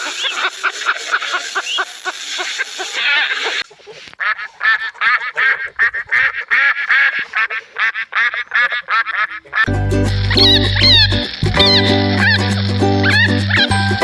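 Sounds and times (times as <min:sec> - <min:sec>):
birds calling rapidly: 0:00.0 - 0:13.8.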